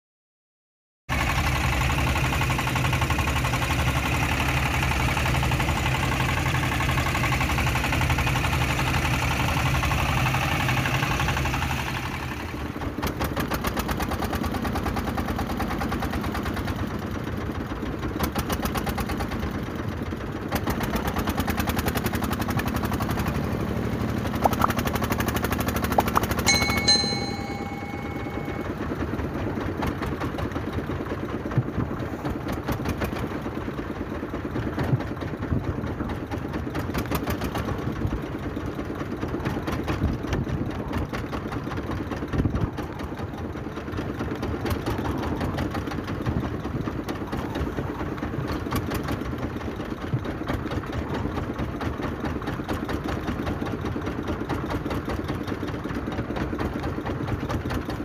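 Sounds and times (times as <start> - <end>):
boat engine chugging: 1.1 - 58.0.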